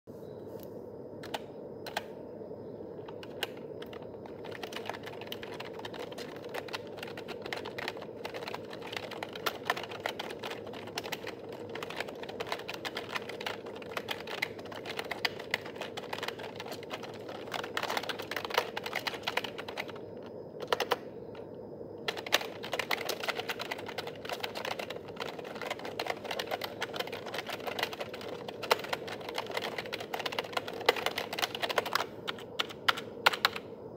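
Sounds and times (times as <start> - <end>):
faint steady hum: 0.1 - 33.9
keyboard typing clicks: 1.2 - 2.2, 3.0 - 20.0, 20.6 - 33.7.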